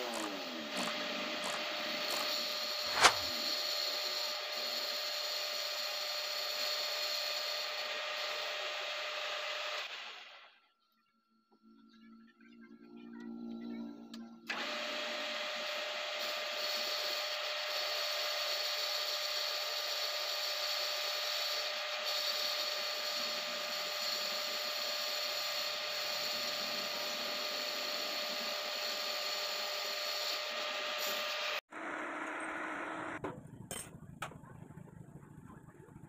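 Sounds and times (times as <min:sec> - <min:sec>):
metal lathe cutting with whine: 0:00.0 - 0:10.4, 0:14.5 - 0:33.2.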